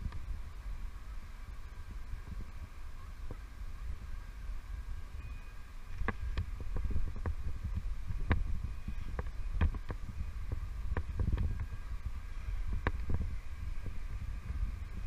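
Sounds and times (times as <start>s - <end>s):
faint steady hum: 0.0s - 15.0s
wind rumble on microphone: 0.0s - 15.0s.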